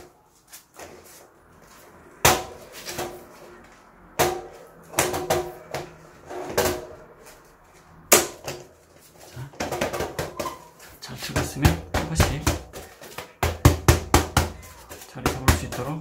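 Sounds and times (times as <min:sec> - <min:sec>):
rubber tyre rubbing and scraping: 0:00.0 - 0:16.0.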